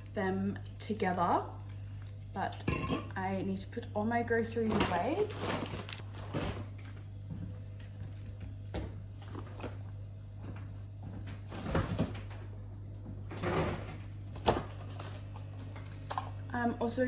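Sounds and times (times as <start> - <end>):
groceries knocking and clunking: 0.0 - 17.0.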